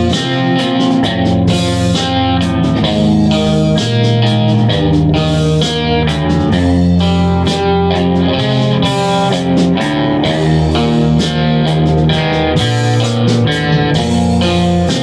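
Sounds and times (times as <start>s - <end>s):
bass line: 0.0s - 15.0s
electric guitar: 0.0s - 15.0s.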